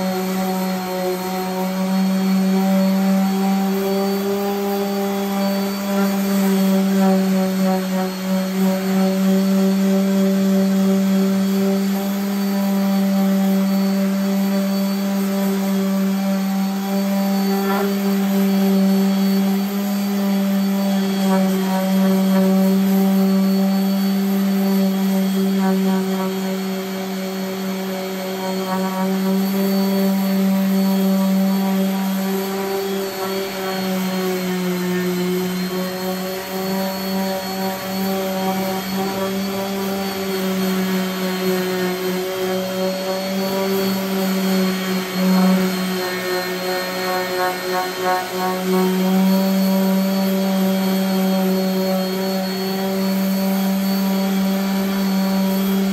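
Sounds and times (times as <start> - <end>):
orbital sander sanding wood: 0.0 - 55.9.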